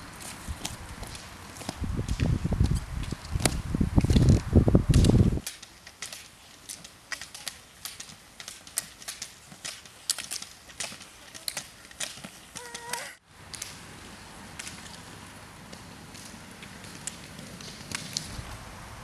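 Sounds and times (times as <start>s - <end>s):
ski poles clicking on pavement: 0.0s - 18.7s
roller ski wheels rumbling on asphalt: 0.0s - 19.0s.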